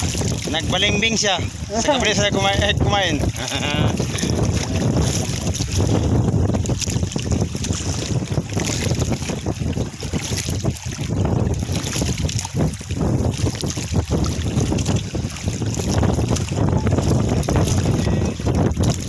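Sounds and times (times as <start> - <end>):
waves against boat: 0.0 - 19.0
wind gusting over microphone: 0.0 - 19.0.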